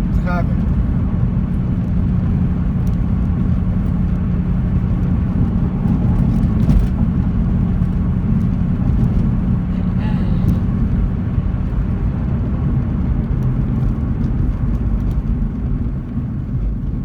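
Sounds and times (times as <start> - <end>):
car engine cruising: 0.0 - 17.0
road and tyre noise: 0.0 - 17.0.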